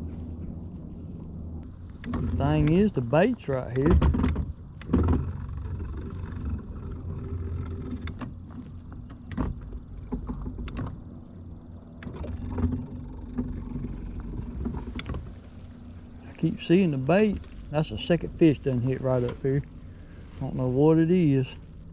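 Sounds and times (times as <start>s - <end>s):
boat motor humming: 0.0s - 21.9s.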